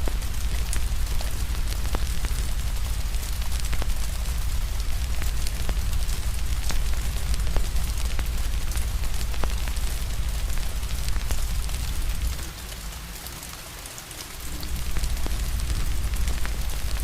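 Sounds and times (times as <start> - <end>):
deep low rumble: 0.0 - 12.5, 14.5 - 17.0
fire crackling and popping: 0.0 - 13.3, 14.2 - 17.0
steady rain hiss: 0.0 - 17.0.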